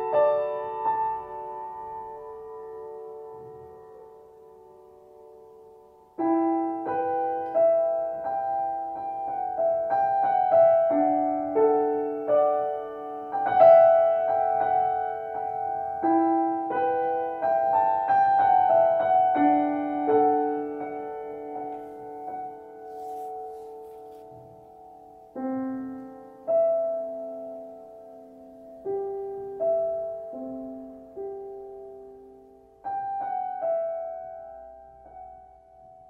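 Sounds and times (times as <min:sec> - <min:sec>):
solo grand piano melody: 0:00.0 - 0:36.0.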